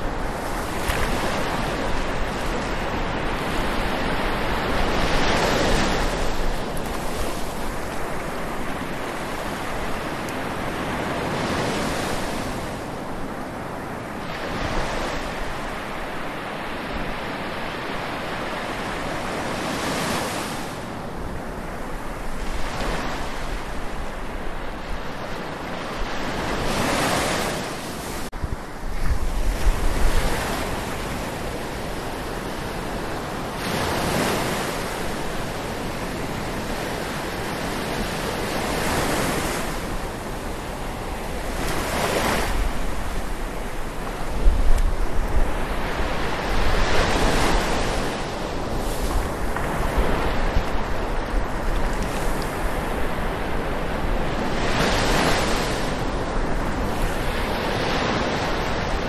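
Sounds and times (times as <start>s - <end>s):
surf washing on a beach: 0.0s - 59.0s
wind buffeting microphone: 0.0s - 59.0s.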